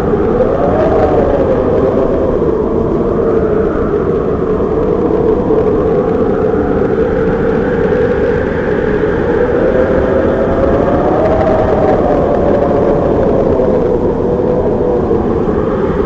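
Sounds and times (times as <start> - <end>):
tornado wind roaring: 0.0 - 16.0.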